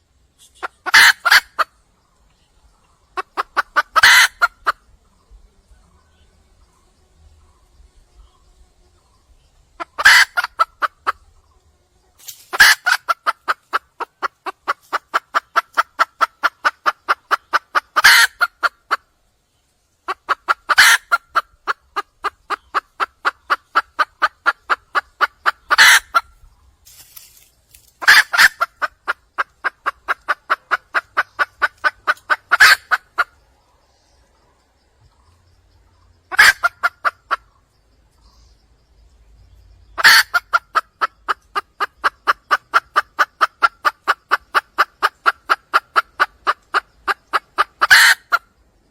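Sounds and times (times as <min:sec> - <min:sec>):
junglefowl hen rapid clucking: 0:00.3 - 0:06.0, 0:09.7 - 0:19.2, 0:20.0 - 0:38.6, 0:39.5 - 0:48.6.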